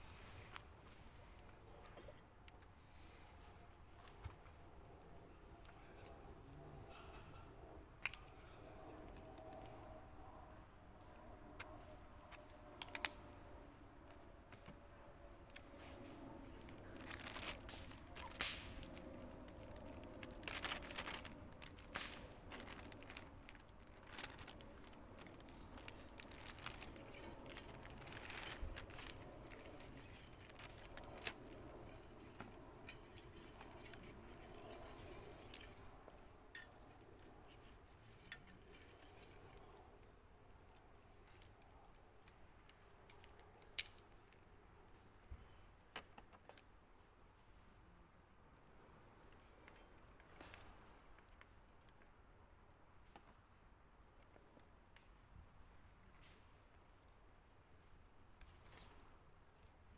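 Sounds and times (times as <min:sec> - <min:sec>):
rustling and crinkling: 0:00.0 - 0:47.8, 0:48.6 - 0:52.3, 0:52.9 - 0:59.9.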